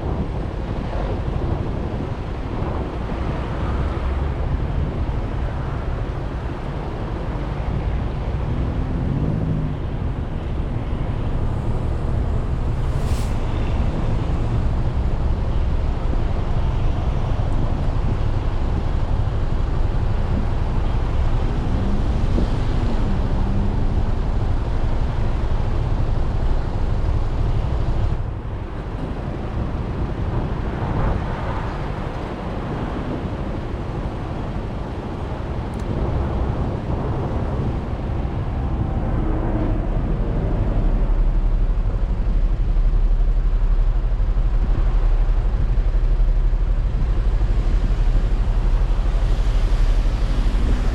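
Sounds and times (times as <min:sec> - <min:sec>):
road noise: 0:00.0 - 0:50.9
wind rushing over microphone: 0:00.0 - 0:50.9.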